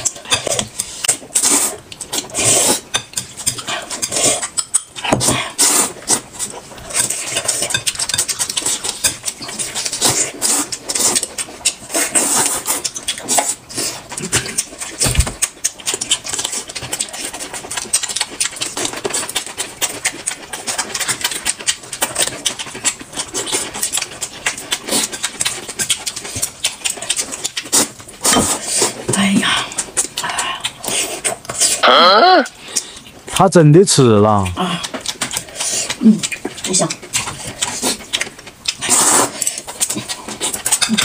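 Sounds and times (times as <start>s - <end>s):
food crunching: 0.0s - 41.0s
wet chewing and slurping: 0.0s - 41.0s.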